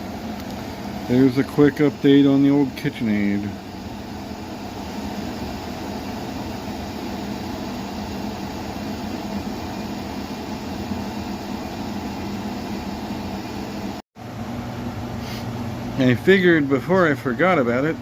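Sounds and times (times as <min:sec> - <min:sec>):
compressor low hum: 0:00.0 - 0:18.0
dehumidifier fan whoosh: 0:00.0 - 0:18.0.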